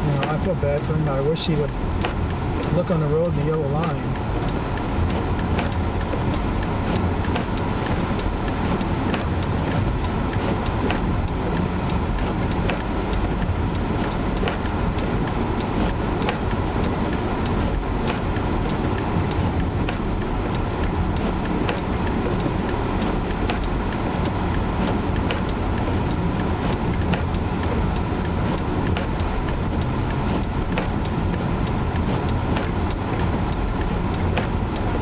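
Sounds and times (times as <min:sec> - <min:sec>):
car engine and tyre rumble: 0:00.0 - 0:35.0
light ticks: 0:00.0 - 0:35.0.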